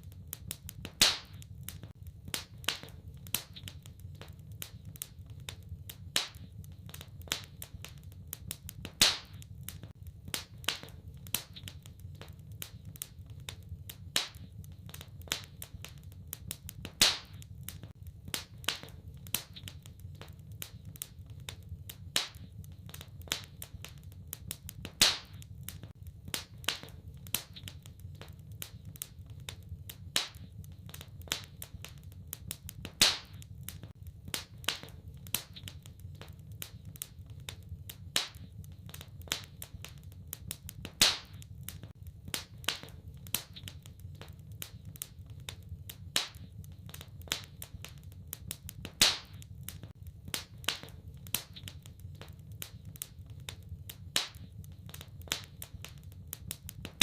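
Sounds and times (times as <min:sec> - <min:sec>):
low rumble of burning: 0:00.0 - 0:57.0
wood fire crackling: 0:00.0 - 0:57.0.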